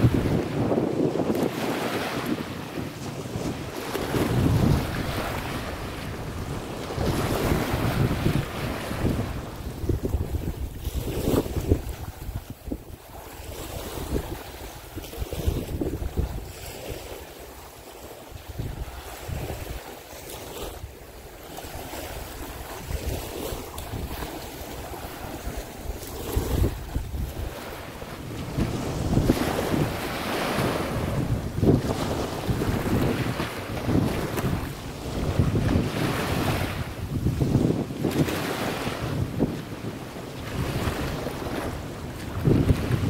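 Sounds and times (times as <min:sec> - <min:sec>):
wind buffeting microphone: 0:00.0 - 0:17.4, 0:18.3 - 0:43.0
choppy sea water: 0:00.0 - 0:43.0
small waves washing on shore: 0:00.0 - 0:43.0.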